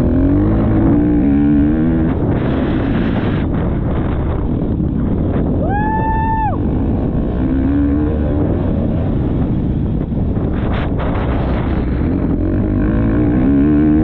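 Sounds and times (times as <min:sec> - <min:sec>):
wind buffeting on microphone: 0:00.0 - 0:14.0.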